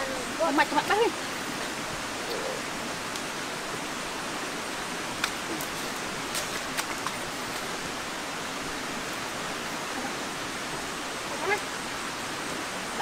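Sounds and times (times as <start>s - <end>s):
forest ambience hiss: 0.0s - 13.0s.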